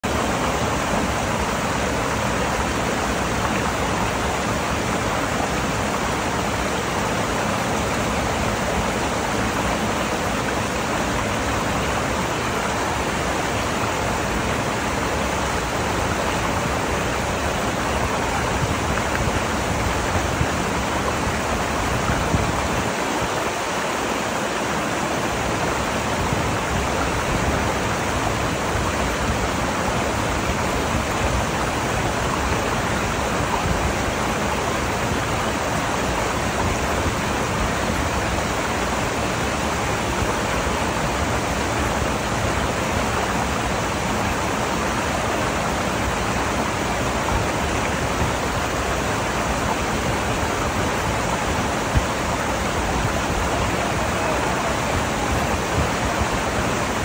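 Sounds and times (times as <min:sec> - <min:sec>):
small waterfall: 0:00.0 - 0:57.0
stream rushing over stones: 0:00.0 - 0:57.0.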